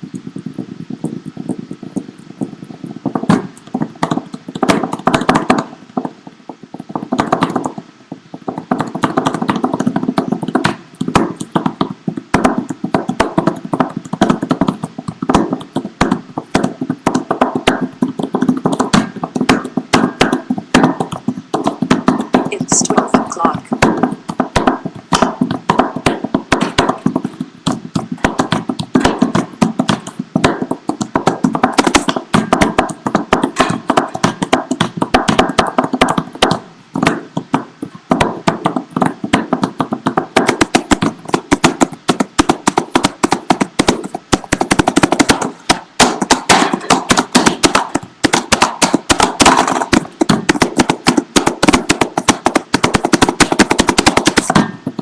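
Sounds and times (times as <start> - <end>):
hands drumming on a desk: 6.9 - 7.8, 8.4 - 55.0.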